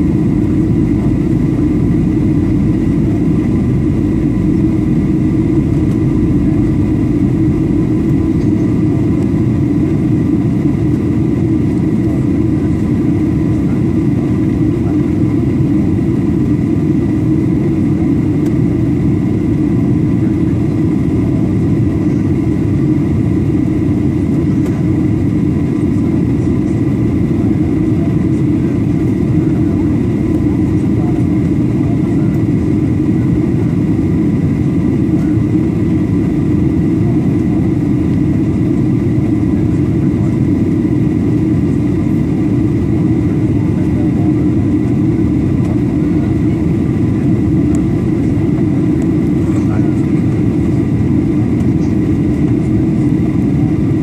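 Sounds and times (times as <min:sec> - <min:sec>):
aircraft engine drone: 0:00.0 - 0:54.0.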